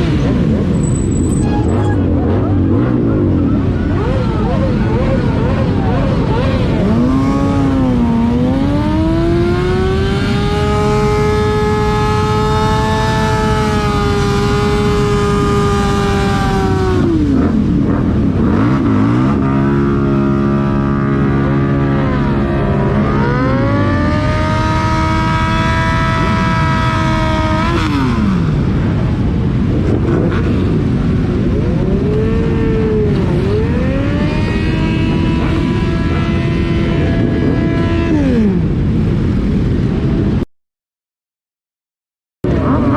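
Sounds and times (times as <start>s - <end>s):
motorcycle engine revving: 0.0s - 39.1s
other motorcycle engines running: 0.0s - 40.4s.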